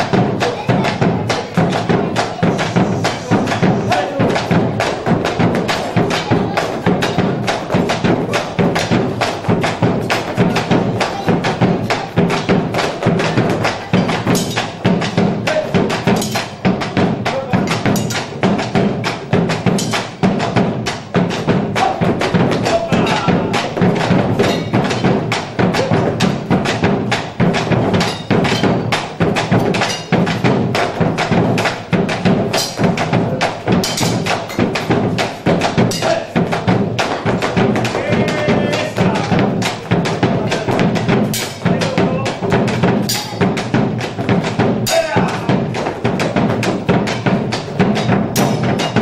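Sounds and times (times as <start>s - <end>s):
fast percussion beat: 0.0s - 49.0s.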